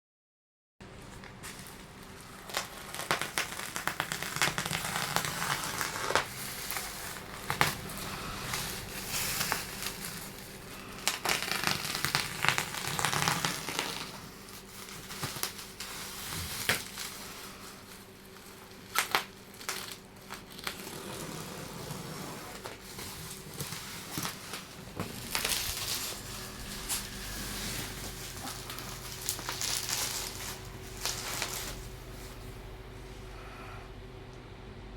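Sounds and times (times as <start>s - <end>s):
plastic wrapping crinkling: 0.9s - 32.8s.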